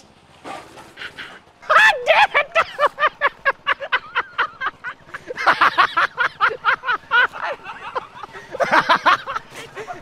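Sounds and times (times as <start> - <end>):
person laughing hard: 1.7 - 10.0.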